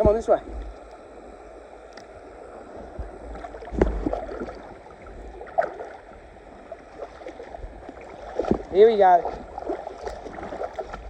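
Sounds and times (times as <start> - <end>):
muffled water sloshing: 0.0 - 11.0.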